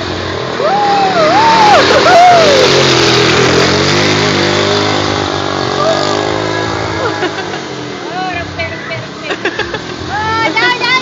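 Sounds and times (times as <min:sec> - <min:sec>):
engine running: 0:00.0 - 0:11.0
wind and road noise: 0:00.0 - 0:11.0.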